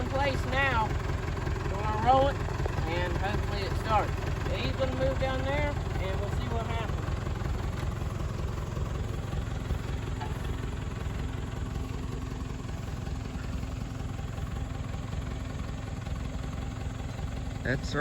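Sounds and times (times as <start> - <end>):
tractor engine running at low revs: 0.0 - 18.0.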